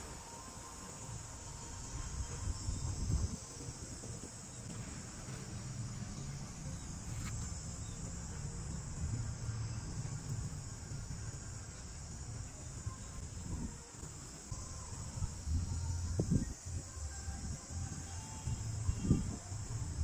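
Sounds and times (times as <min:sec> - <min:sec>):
insects chirring: 0:00.0 - 0:20.0
low uneven rumble: 0:01.0 - 0:20.0.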